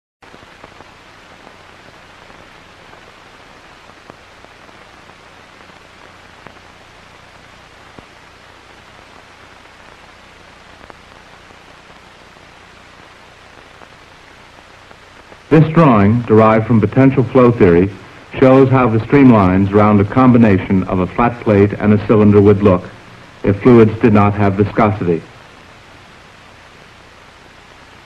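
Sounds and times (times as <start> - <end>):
recording hiss: 0.2 - 28.0
faint low hum: 0.4 - 28.0.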